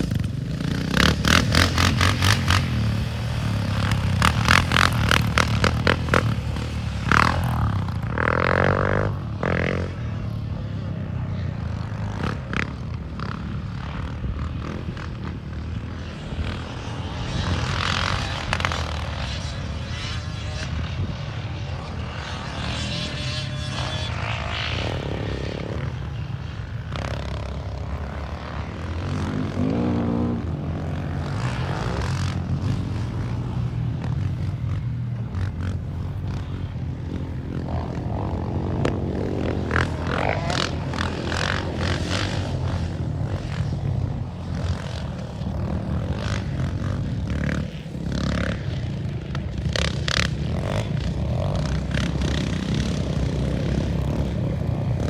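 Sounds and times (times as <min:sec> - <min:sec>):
atv engine drone: 0:00.0 - 0:55.0.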